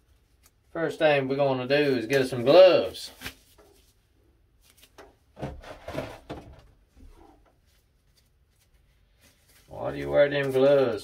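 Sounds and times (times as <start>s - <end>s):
gloves rustling: 0.0s - 11.0s.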